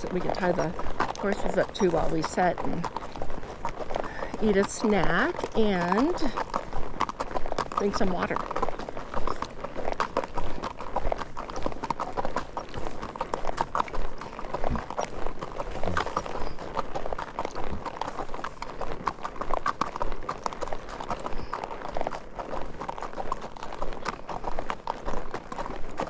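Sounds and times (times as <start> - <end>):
horse hooves clip-clopping: 0.0 - 26.0.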